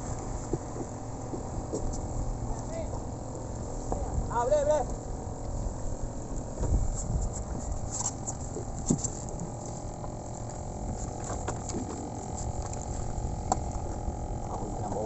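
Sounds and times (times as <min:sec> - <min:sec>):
steady low rumble: 0:00.0 - 0:15.0
water lapping and splashing: 0:00.0 - 0:15.0.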